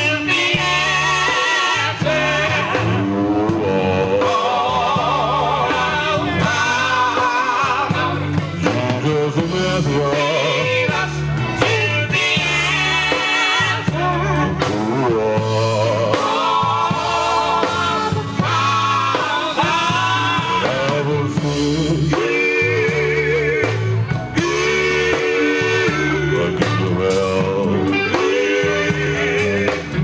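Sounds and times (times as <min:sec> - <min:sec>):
bass guitar: 0:00.0 - 0:30.0
electric guitar: 0:00.0 - 0:30.0
vocal group singing gospel: 0:00.0 - 0:30.0.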